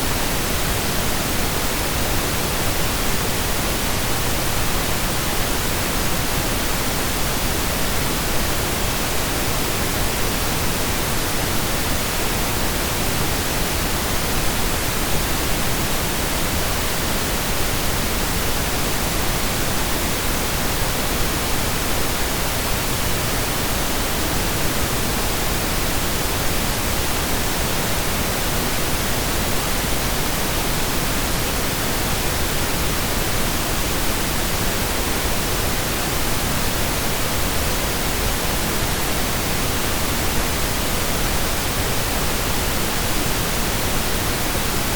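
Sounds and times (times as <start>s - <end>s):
pink noise hiss: 0.0s - 44.9s.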